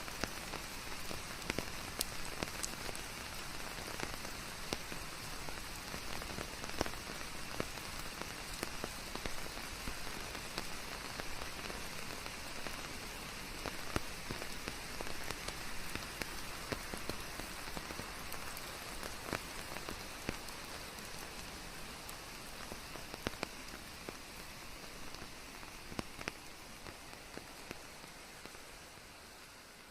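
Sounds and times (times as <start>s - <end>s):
rain drops striking a surface: 0.0s - 29.9s
white-noise hiss: 0.0s - 29.9s.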